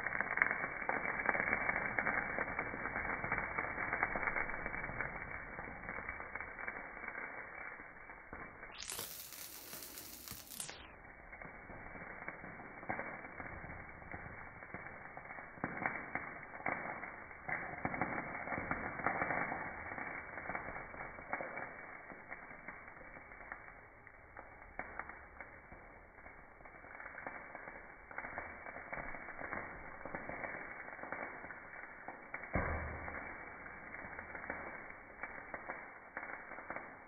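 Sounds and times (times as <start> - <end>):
chicken sizzling: 0.0 - 37.0
fire crackling and popping: 0.0 - 37.0.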